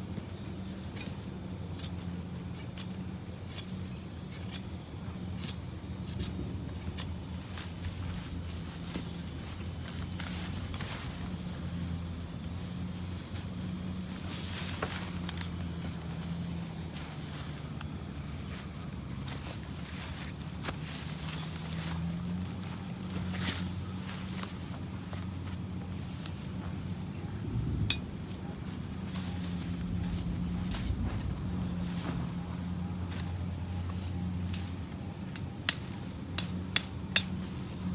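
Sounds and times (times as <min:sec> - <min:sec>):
night insects chorus: 0:00.0 - 0:37.9.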